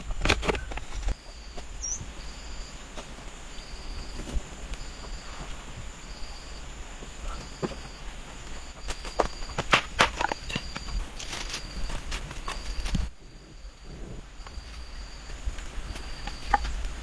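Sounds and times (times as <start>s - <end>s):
insect chirping trills: 0.0s - 17.0s.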